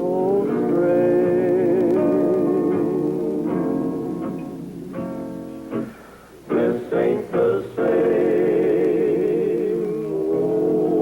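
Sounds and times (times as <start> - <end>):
vocal group singing in harmony: 0.0 - 5.1, 6.5 - 11.0
guitar: 0.0 - 11.0.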